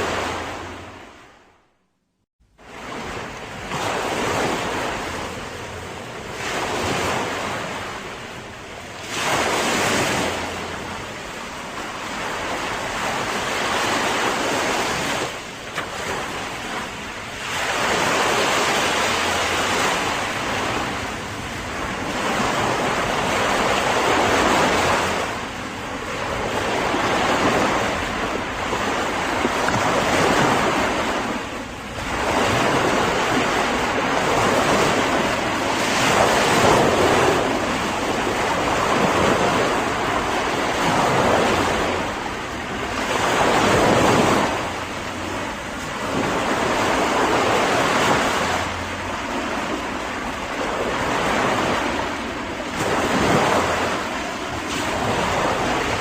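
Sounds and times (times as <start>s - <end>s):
sea waves breaking: 0.0s - 1.7s, 2.4s - 56.0s.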